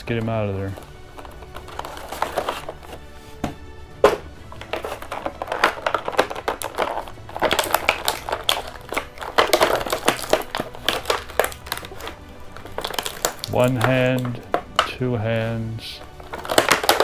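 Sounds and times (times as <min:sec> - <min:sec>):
plastic packaging crinkling and clicking: 0:00.1 - 0:03.0, 0:04.0 - 0:17.0.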